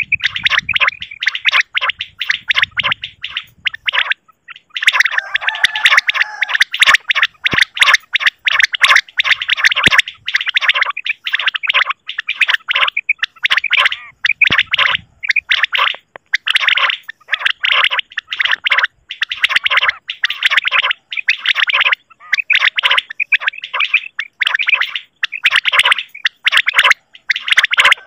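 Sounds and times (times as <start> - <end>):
quail calls: 0.0 - 28.0.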